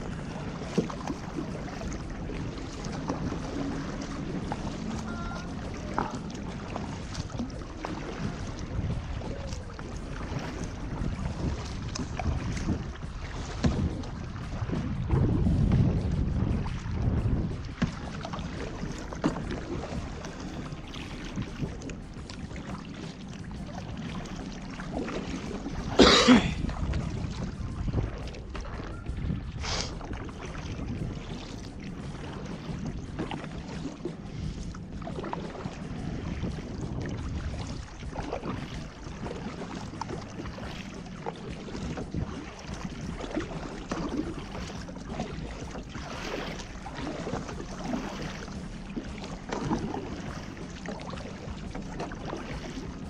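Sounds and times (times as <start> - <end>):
kayak paddling through water: 0.0 - 53.0.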